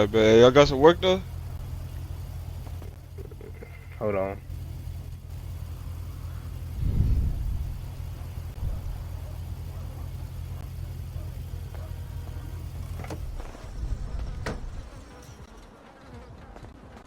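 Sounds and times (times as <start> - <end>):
car engine idling: 0.0 - 15.5.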